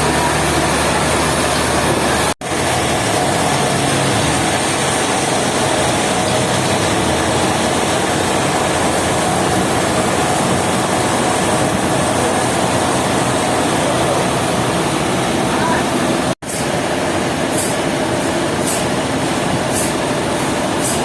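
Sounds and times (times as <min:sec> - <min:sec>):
woodworking machinery running: 0:00.0 - 0:21.0.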